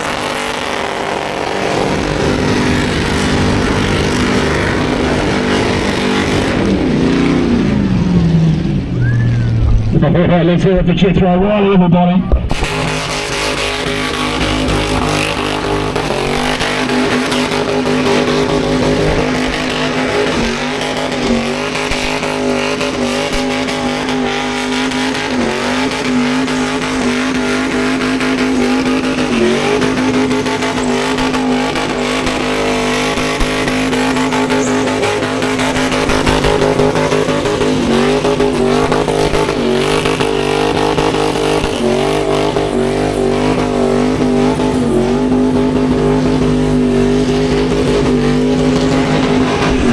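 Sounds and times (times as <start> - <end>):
car engine at high revs: 0.0 - 49.9.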